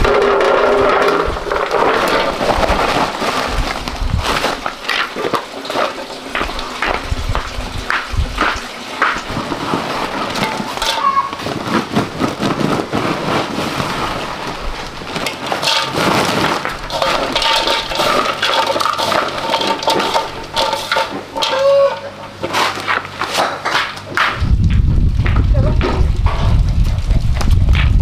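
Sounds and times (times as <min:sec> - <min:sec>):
dry flakes rustling in metal basin: 0:00.0 - 0:24.0.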